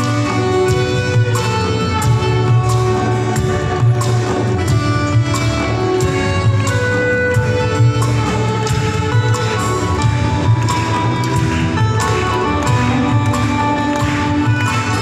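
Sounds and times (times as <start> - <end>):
held melodic notes: 0.0 - 15.0
light regular beat: 0.0 - 15.0
steady bass: 0.0 - 15.0.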